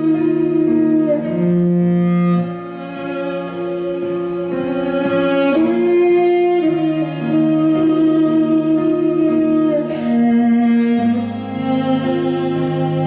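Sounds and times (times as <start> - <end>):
bowed fiddle slow melody: 0.0 - 13.0.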